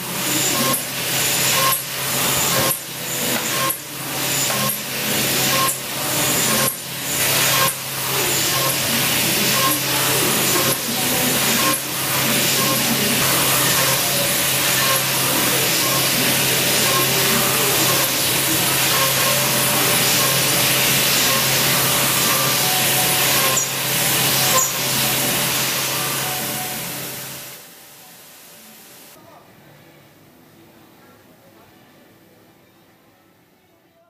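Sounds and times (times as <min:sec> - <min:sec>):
milling machine cutting steel: 0:00.0 - 0:27.6.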